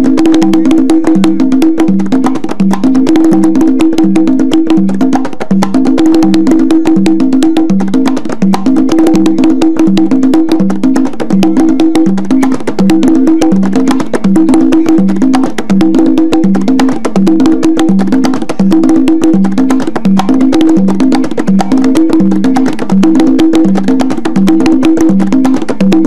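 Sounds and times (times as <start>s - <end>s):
conga open tones and slaps: 0.0s - 26.0s.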